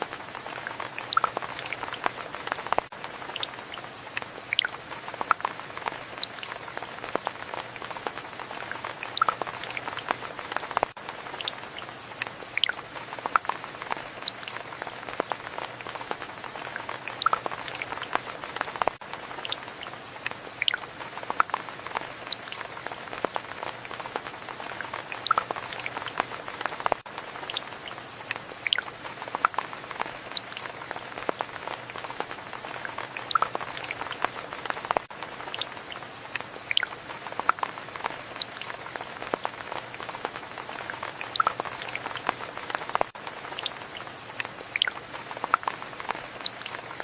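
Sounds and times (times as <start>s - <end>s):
rain drops pattering and dripping: 0.0s - 47.0s.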